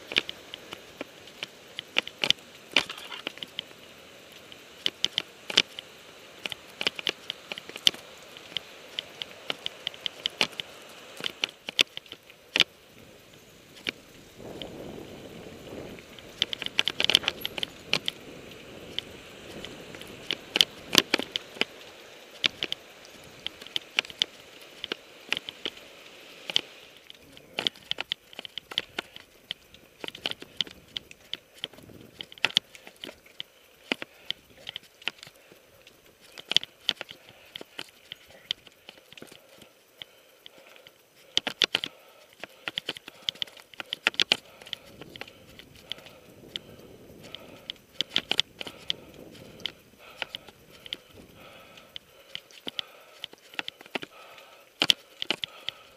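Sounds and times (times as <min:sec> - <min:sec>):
bike rattling over rocks: 0:00.0 - 0:55.9.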